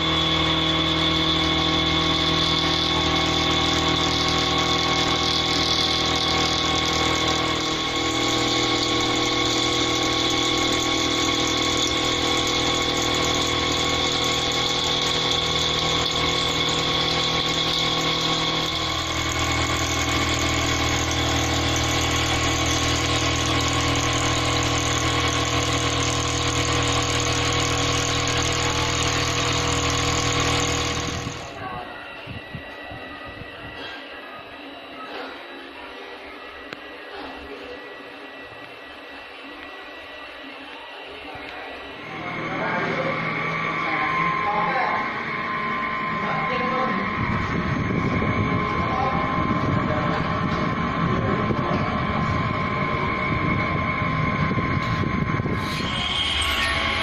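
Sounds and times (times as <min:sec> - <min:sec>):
low machine drone: 0:00.0 - 0:57.0
milling machine whine: 0:00.0 - 0:57.0.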